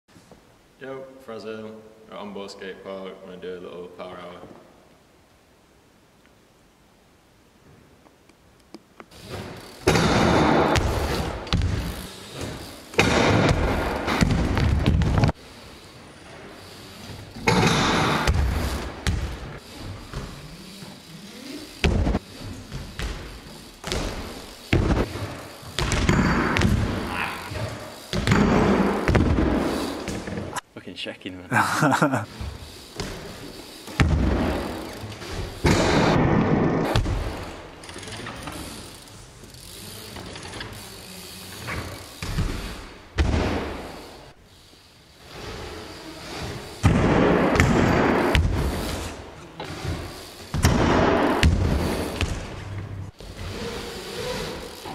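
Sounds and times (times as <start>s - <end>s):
bike scraping slide: 9.1s - 30.6s, 32.0s - 54.9s
bike tyres thudding on ramps: 9.1s - 30.6s, 32.2s - 54.9s.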